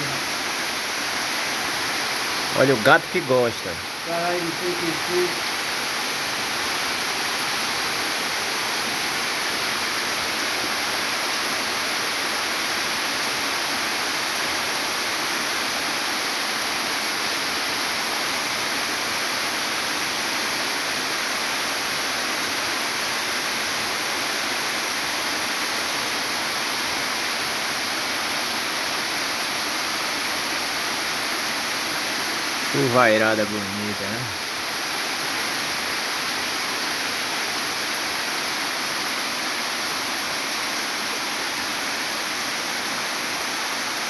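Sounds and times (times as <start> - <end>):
heavy rain downpour: 0.0 - 44.0.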